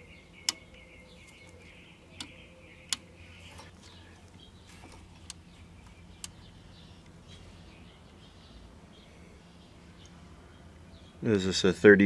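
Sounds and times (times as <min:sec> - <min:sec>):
faint bird chirps: 0:00.0 - 0:11.4
low steady hum: 0:00.0 - 0:12.0.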